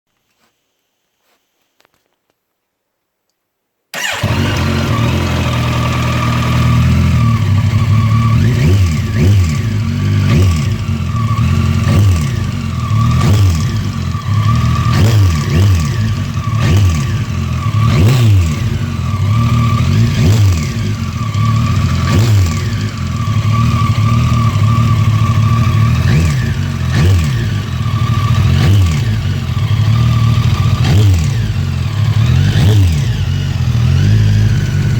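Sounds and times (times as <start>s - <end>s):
motorcycle engine revving: 4.0s - 34.9s.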